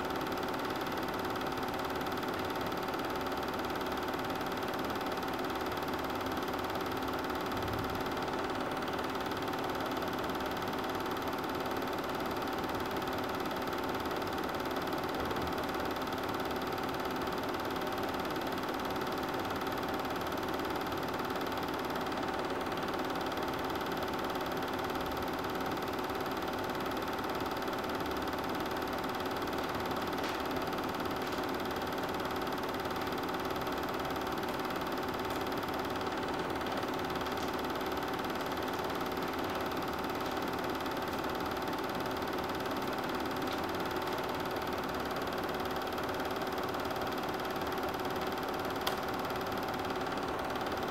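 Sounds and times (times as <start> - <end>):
film projector whirring: 0.0 - 50.9.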